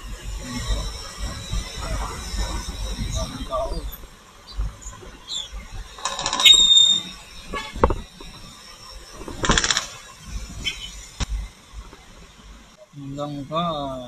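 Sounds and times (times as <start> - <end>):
scooter engine: 0.0 - 12.7
loud hissing bursts: 0.0 - 14.0
street traffic: 0.0 - 14.0.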